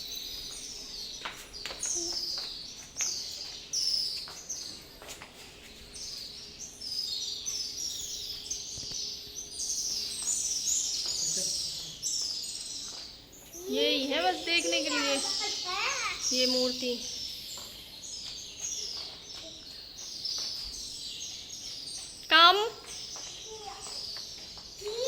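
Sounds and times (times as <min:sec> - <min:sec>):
birds chirping in chorus: 0:00.0 - 0:25.0.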